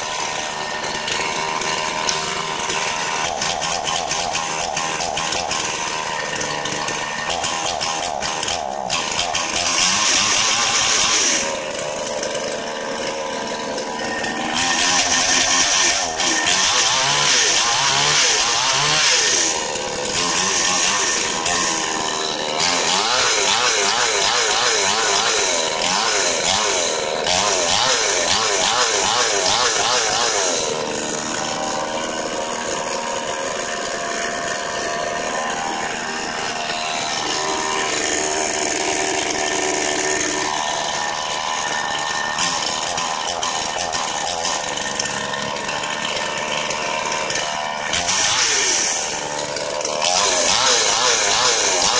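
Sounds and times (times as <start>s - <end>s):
chainsaw running: 0.0s - 51.9s.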